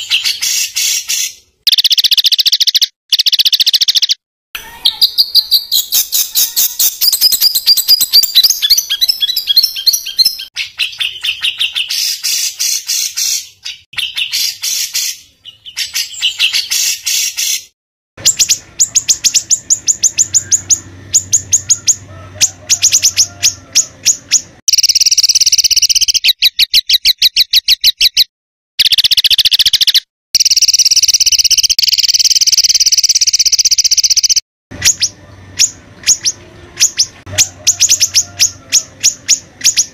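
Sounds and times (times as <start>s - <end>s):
long buzzy bird trills: 0.0s - 28.2s, 28.8s - 39.9s
songbird harsh rapid notes and trills: 0.0s - 39.9s.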